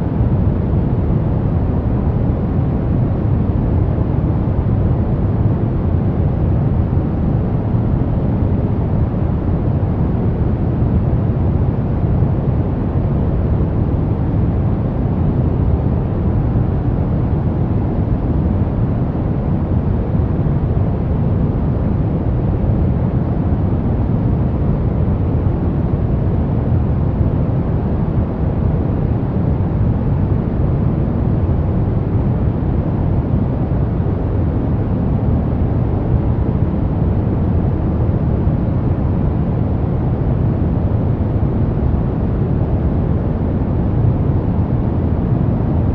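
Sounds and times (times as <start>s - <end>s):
steady pink noise hiss: 0.0s - 45.9s.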